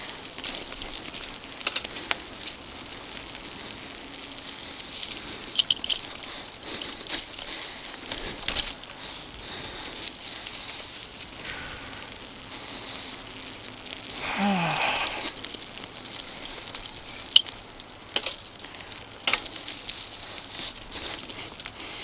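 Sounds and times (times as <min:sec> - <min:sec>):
bike tyres rolling over leaves: 0:00.0 - 0:22.0.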